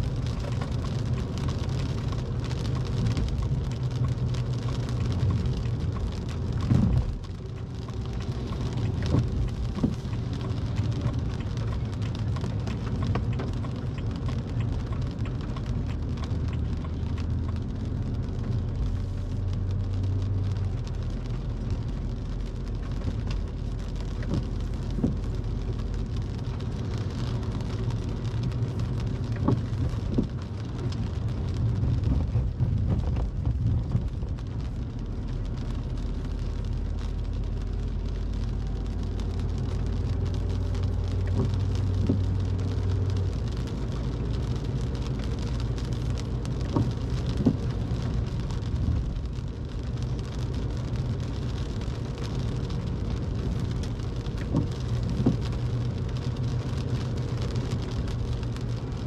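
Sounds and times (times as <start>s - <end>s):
engine and tyres rumbling: 0.0s - 59.0s
rain hiss: 0.0s - 59.0s
raindrops tapping on windshield: 0.0s - 59.0s.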